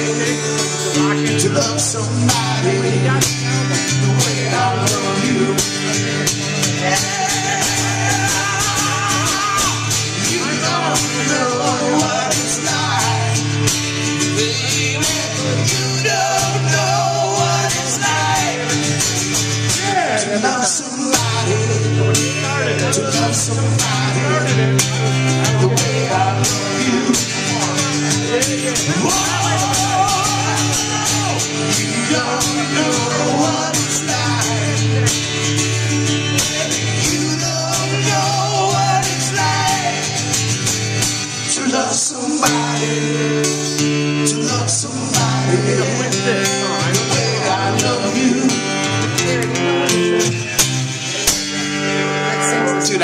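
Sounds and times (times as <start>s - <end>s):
strummed guitar: 0.0s - 53.0s
two men singing: 0.0s - 53.0s.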